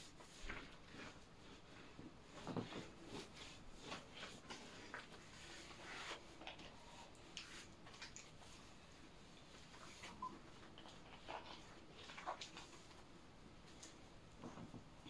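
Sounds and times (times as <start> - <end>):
scratchy strokes and rustles: 0.0 - 14.9.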